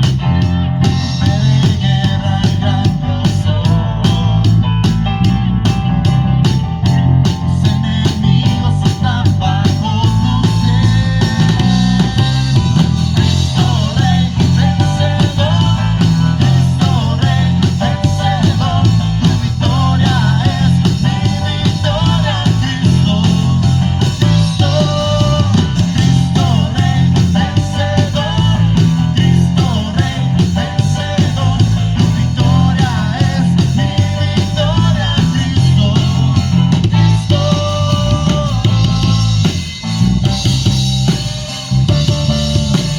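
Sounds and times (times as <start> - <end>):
bass guitar: 0.0 - 42.9
drum kit rock beat: 0.0 - 42.9
electric guitar: 0.0 - 42.9.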